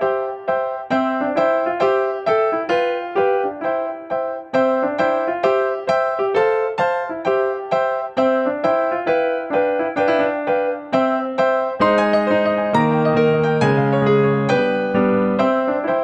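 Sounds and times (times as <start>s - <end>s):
light piano melody: 0.0s - 16.0s.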